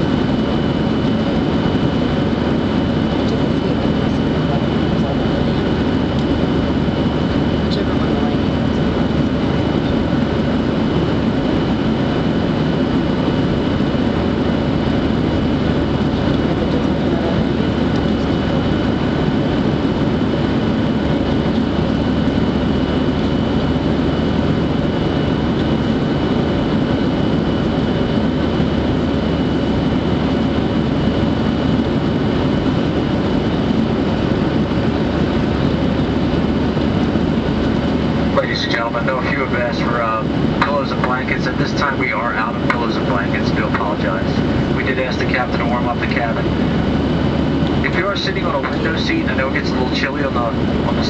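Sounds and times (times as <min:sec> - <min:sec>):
jet engine roar in cabin: 0:00.0 - 0:51.0.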